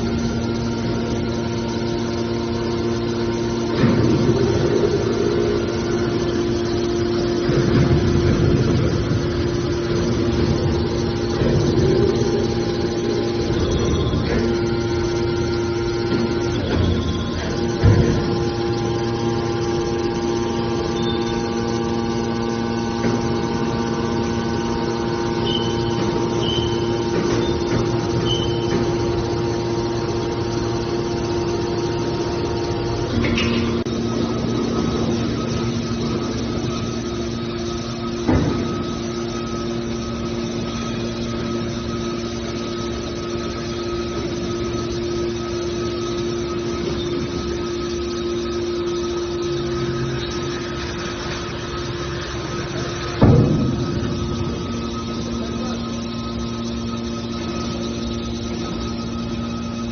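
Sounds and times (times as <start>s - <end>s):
hydraulic power unit humming: 0.0s - 59.9s.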